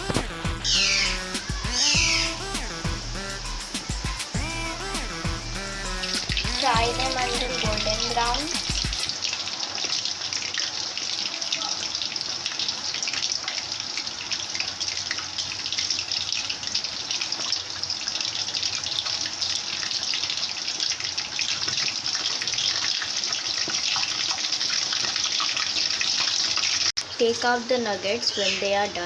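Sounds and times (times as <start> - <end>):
food deep-frying in hot oil: 0.0 - 29.0.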